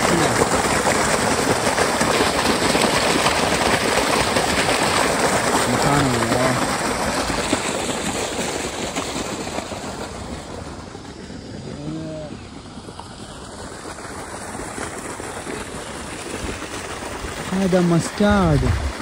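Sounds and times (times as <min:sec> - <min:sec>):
water gushing from a pipe: 0:00.0 - 0:19.0.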